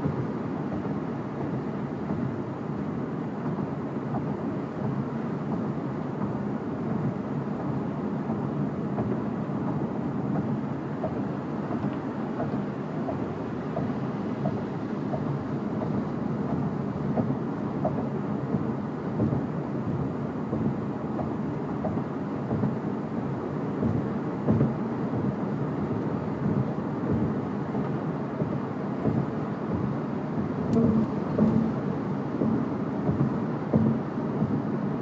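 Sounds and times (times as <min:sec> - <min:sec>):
road and wind noise in car: 0:00.0 - 0:35.0.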